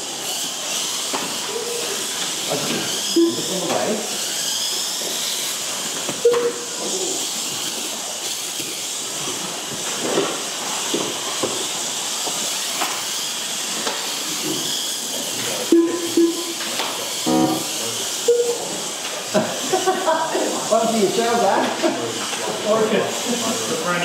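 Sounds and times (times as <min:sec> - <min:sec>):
motor whines sliding in pitch: 0:00.0 - 0:21.4
rc car motors hissing: 0:00.0 - 0:24.0.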